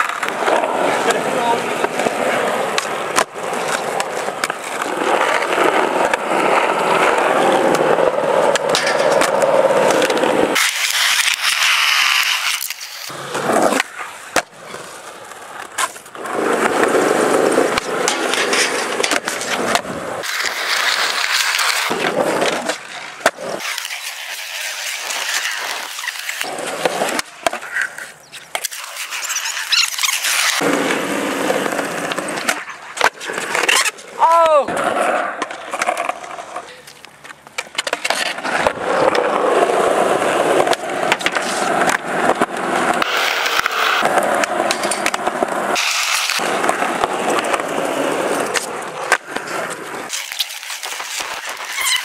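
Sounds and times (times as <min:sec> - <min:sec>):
skateboard clacking: 0:00.0 - 0:52.0
skateboard wheels rolling on concrete: 0:00.0 - 0:52.0.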